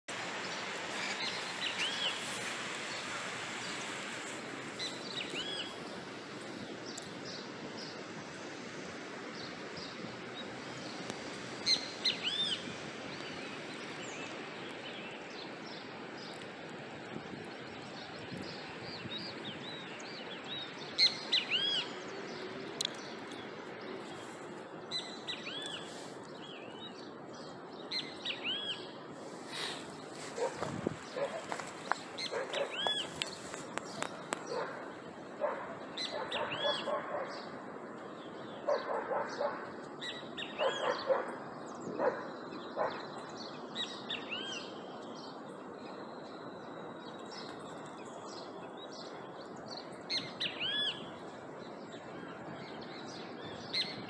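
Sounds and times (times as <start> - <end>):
small birds chirping: 0.1 - 54.0
steady outdoor hiss: 0.1 - 54.0.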